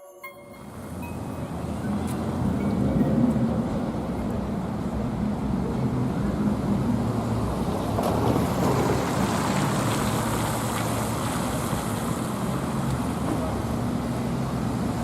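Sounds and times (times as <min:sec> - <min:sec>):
tyres hissing on wet road: 0:00.8 - 0:15.0.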